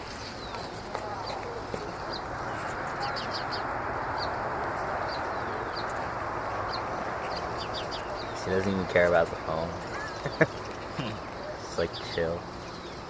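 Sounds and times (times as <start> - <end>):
small birds chirping: 0.0 - 13.0
steady rushing noise: 0.0 - 13.0.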